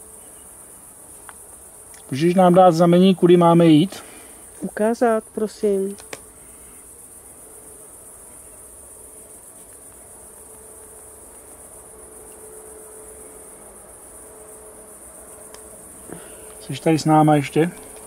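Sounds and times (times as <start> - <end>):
crickets chirping: 0.0 - 18.0
faint steady hum: 0.0 - 18.0.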